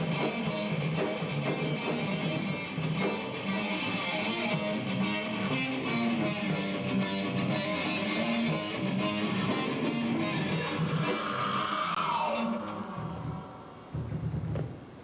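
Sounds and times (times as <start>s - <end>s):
electric guitars strumming: 0.0s - 14.6s
bass: 0.0s - 15.0s
drums: 0.0s - 15.0s.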